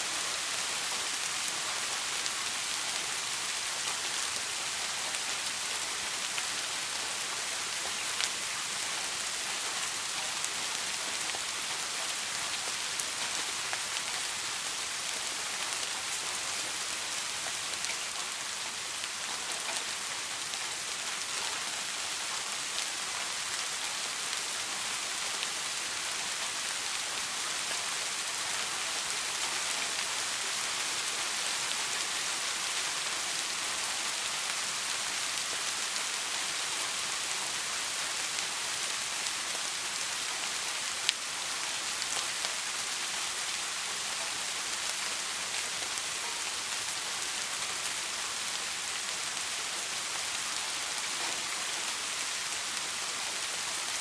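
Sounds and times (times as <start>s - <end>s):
soft rain falling: 0.0s - 54.0s.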